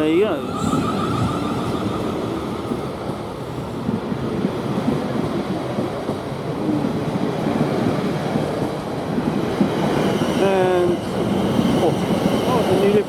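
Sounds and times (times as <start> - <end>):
electric train running past: 0.0 - 13.0.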